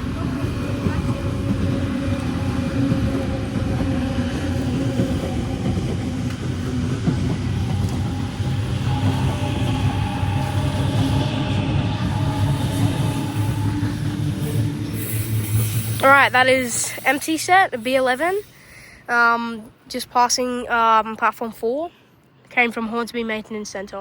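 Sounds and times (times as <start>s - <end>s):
electric train rumbling: 0.0s - 21.8s
high train tone: 0.0s - 24.0s.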